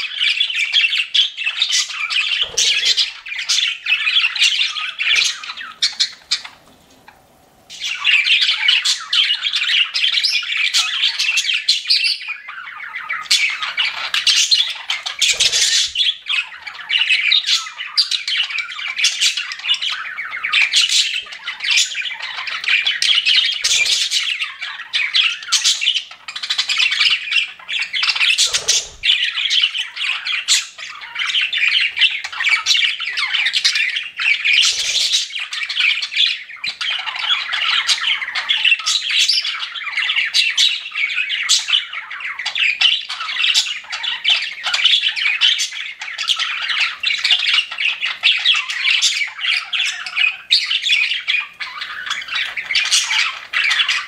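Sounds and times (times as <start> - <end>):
budgerigars chirping and squawking: 0.0 - 54.0.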